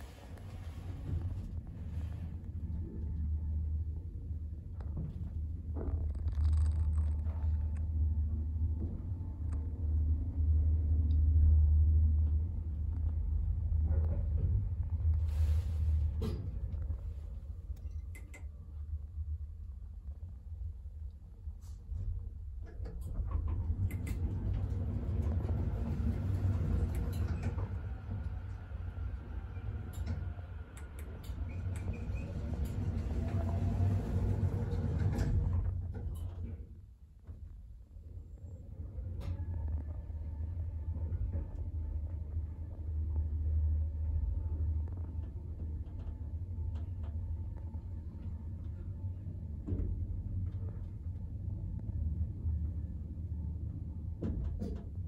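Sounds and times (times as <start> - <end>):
elevator low rumble: 0.0 - 55.0.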